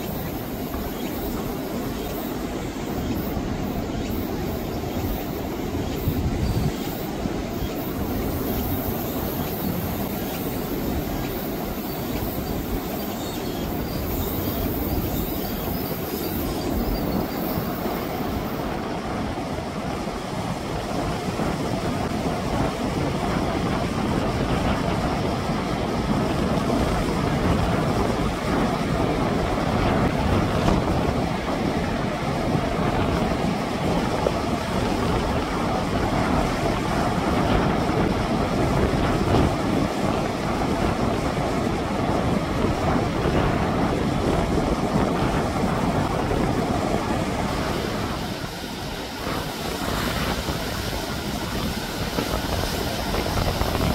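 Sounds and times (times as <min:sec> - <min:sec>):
heavy surf breaking over rocks: 0:00.0 - 0:53.9.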